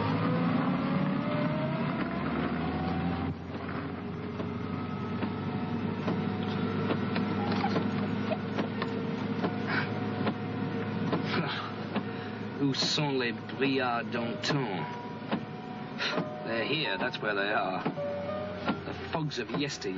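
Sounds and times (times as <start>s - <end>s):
car engine running: 0.0s - 19.9s.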